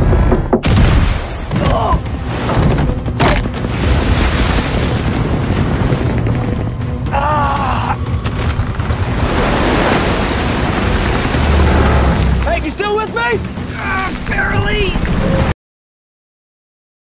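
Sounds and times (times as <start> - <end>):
heavy booms and rumble: 0.0 - 7.2, 8.0 - 15.5
action film music: 0.0 - 15.5.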